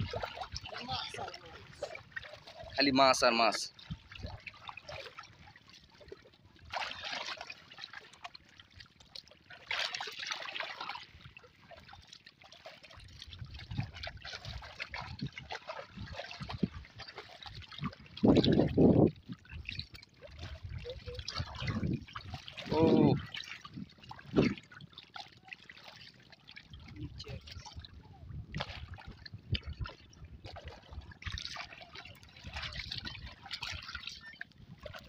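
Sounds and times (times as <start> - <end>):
river water splashing: 0.0 - 35.0.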